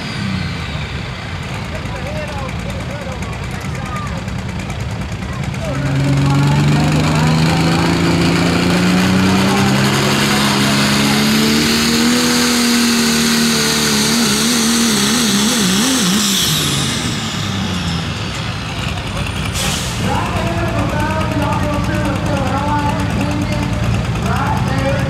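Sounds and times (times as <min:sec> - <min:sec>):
engine at full throttle: 0:00.0 - 0:25.0.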